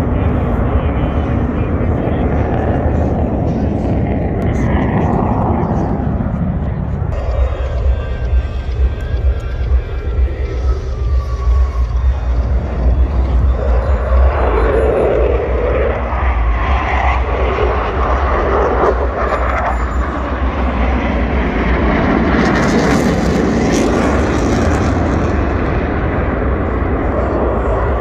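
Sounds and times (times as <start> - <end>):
jet aircraft flying past: 0.0 - 28.0.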